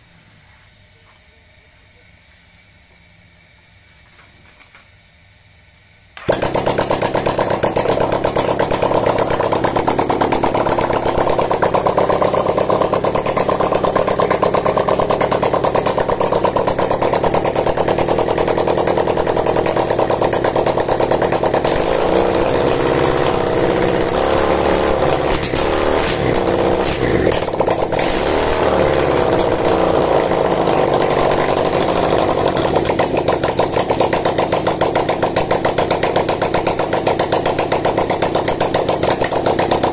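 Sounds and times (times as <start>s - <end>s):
v-twin engine running loudly: 6.2s - 39.9s.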